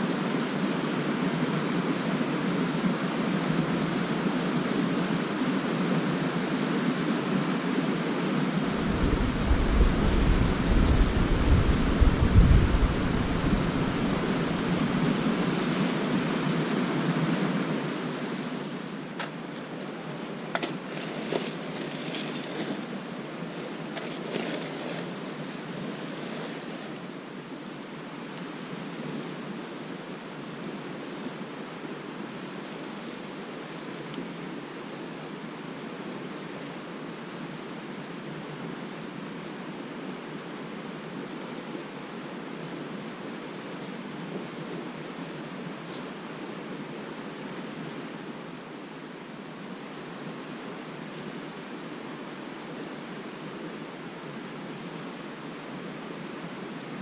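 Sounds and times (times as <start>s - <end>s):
small lake waves: 0.0s - 57.0s
wind: 0.0s - 57.0s.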